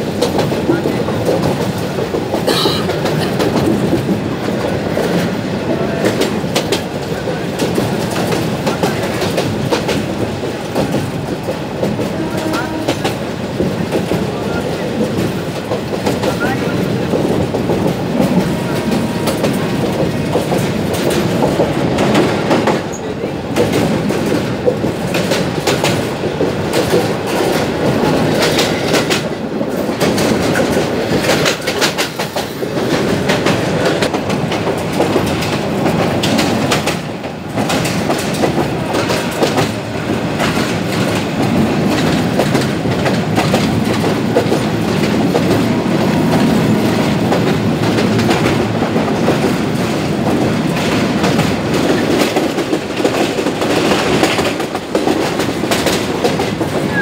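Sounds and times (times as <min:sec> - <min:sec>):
train rolling noise: 0:00.0 - 0:57.0
wheels clacking over rails: 0:00.0 - 0:57.0.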